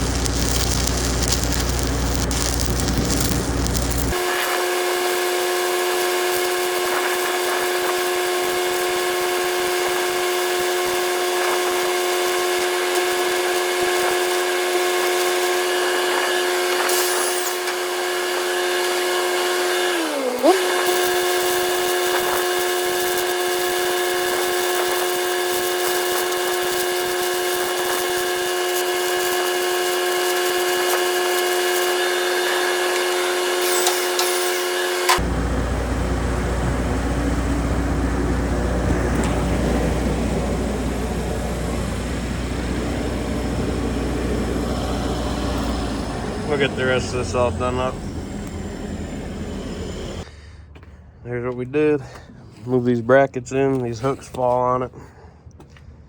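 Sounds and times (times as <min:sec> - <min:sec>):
angle grinder whining: 0:00.0 - 0:50.3.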